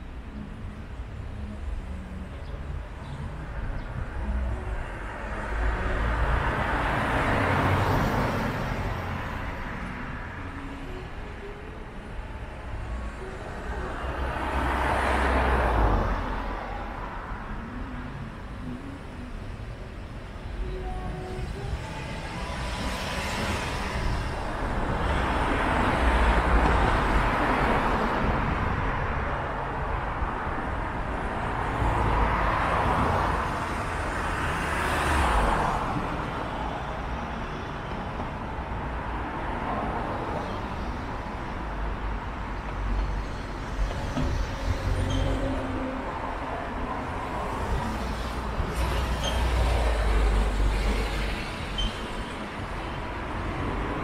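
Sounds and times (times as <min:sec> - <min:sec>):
cars passing: 0:00.0 - 0:54.0
road hum: 0:00.0 - 0:54.0.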